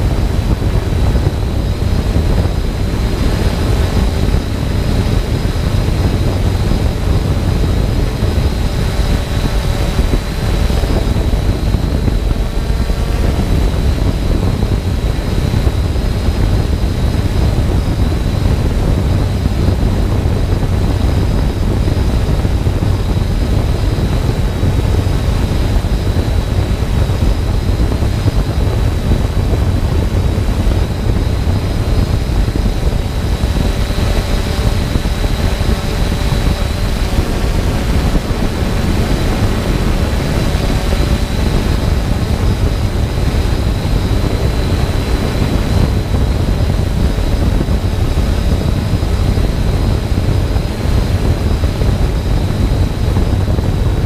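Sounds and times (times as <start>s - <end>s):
drone propellers whining: 0.0s - 54.0s
wind rumbling on microphone: 0.0s - 54.0s.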